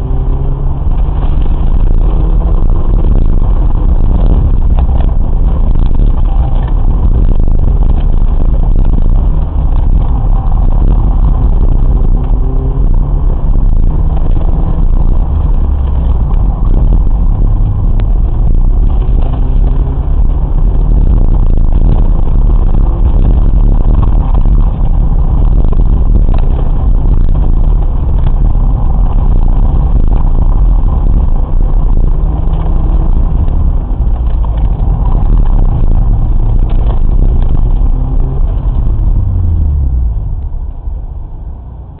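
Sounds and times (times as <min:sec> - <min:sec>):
car engine revving from inside: 0:00.0 - 0:42.0.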